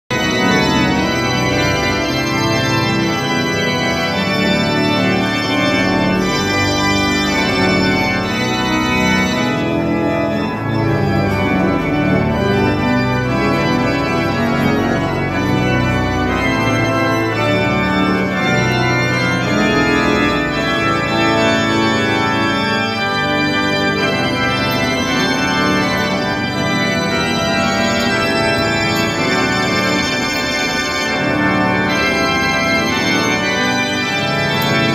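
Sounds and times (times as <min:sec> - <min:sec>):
pipe organ playing chords: 0:00.1 - 0:34.9.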